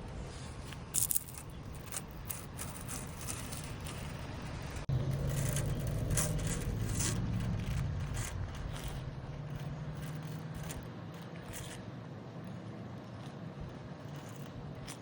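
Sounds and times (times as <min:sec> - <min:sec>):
low steady hum: 0:00.0 - 0:15.0
scraping and rustling: 0:00.1 - 0:15.0.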